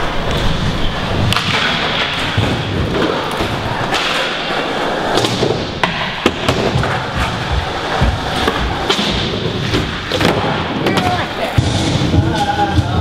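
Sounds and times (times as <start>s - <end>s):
skateboard wheels rumbling: 0.0s - 13.0s
skateboard clacks and thuds: 0.2s - 13.0s.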